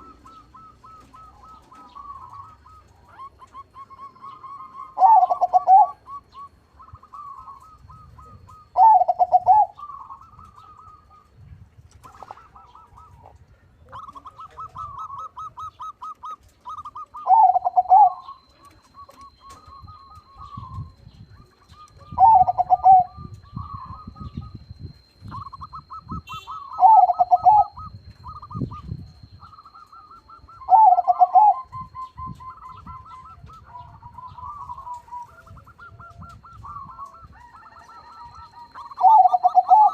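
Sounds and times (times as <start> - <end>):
rapid stuttering bird calls: 0.0 - 11.3, 13.9 - 39.9
dove cooing song: 0.0 - 39.9.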